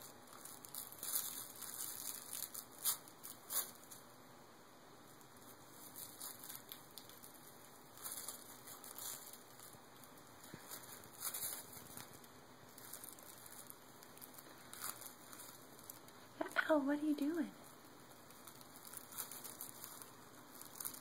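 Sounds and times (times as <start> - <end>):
paper crinkling and rustling: 0.0 - 4.1, 5.2 - 16.3, 17.6 - 21.0.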